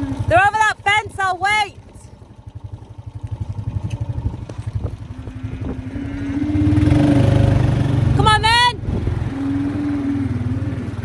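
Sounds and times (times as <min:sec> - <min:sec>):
vehicle engine throbbing: 0:00.0 - 0:11.0.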